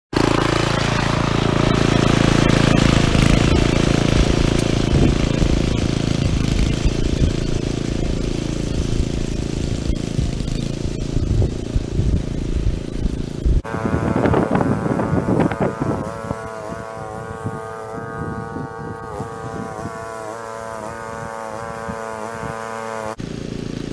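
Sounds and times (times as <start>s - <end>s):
reel mower engine running: 0.1s - 23.9s.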